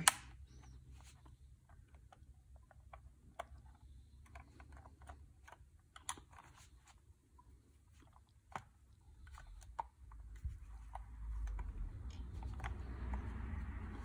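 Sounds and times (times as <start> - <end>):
plain clicks: 0.0 - 6.6, 8.0 - 14.0.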